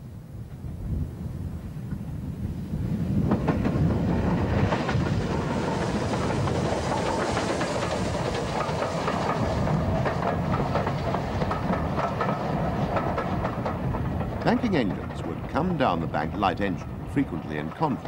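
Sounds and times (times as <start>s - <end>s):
train wheels rumbling: 0.3s - 18.0s
wheels clattering over rail joints: 3.2s - 18.0s.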